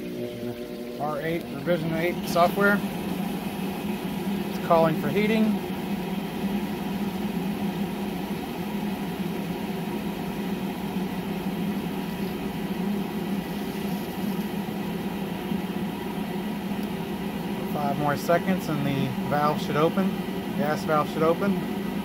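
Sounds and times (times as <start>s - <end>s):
pool heater fan and pump humming: 0.0s - 22.0s.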